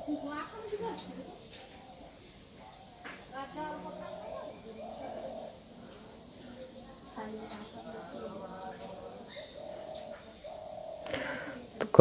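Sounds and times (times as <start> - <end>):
faint distant voices: 0.0 - 12.0
insect chirping: 0.0 - 12.0.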